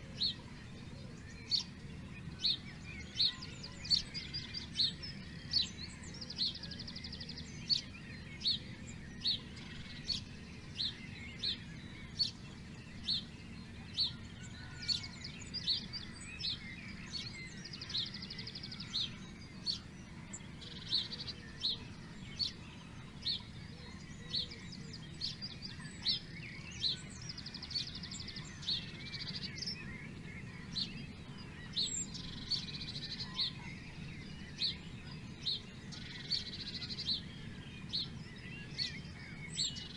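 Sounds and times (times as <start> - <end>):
bird chirps: 0.1 - 39.9.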